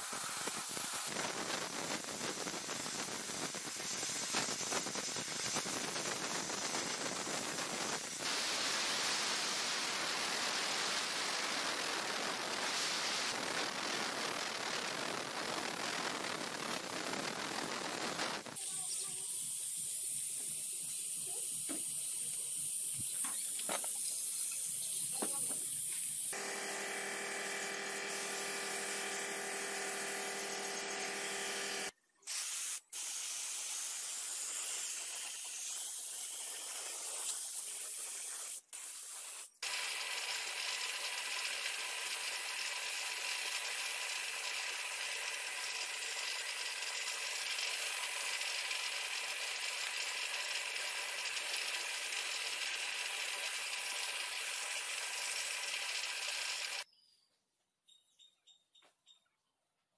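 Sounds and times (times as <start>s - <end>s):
paint spray gun hissing: 0.0s - 56.8s.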